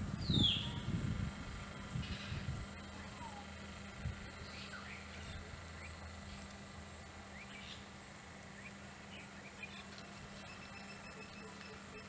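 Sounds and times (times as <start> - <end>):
outdoor background hiss: 0.0 - 12.0
steady low hum: 0.0 - 12.0
birds chirping: 0.2 - 0.9, 2.0 - 6.3, 7.2 - 12.0.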